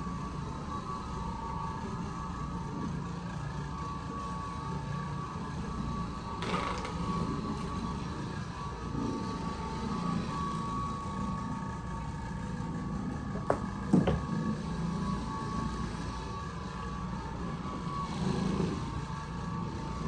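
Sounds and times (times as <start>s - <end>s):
floor machine motor drone: 0.0s - 20.0s.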